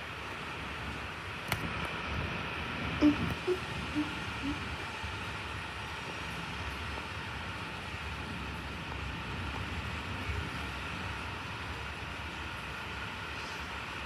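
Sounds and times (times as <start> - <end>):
rushing rain: 0.0 - 14.0.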